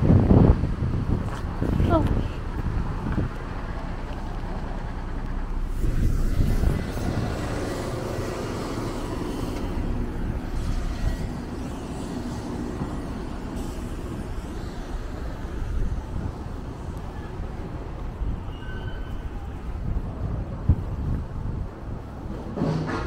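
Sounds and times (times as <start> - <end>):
bus pulling away: 0.0 - 23.0
cars passing: 0.0 - 23.0.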